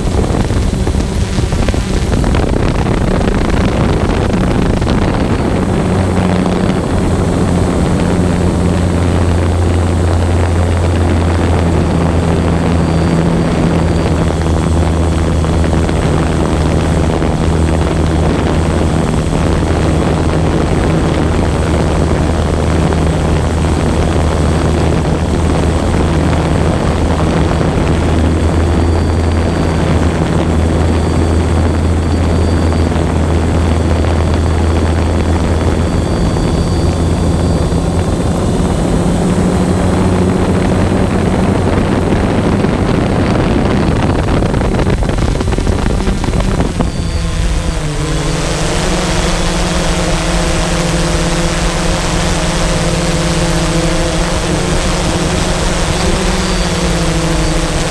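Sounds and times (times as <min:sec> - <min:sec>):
drone propellers humming: 0:00.0 - 0:57.9.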